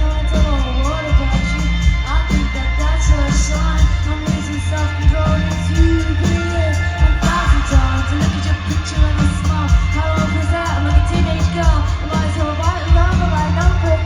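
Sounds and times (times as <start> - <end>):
drums keeping a steady beat: 0.0 - 14.0
rock band playing live: 0.0 - 14.0.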